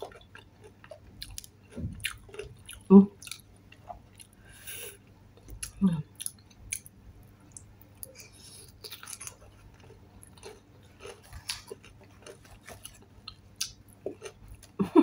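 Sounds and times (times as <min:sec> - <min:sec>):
person chewing crispy food: 0:00.0 - 0:04.8, 0:05.4 - 0:15.0.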